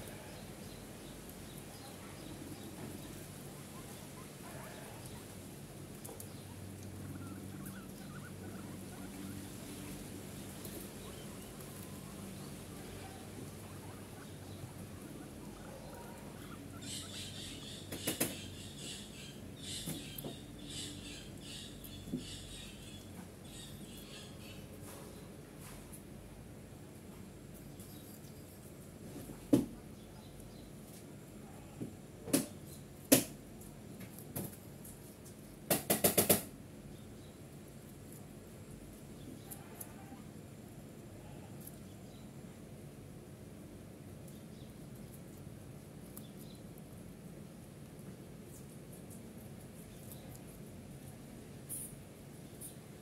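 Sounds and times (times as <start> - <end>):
guinea pigs crunching vegetables: 0.0 - 53.0.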